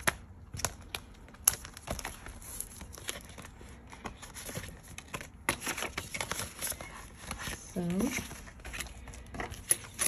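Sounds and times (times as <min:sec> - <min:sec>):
plastic binder pages rustling: 0:00.0 - 0:10.0.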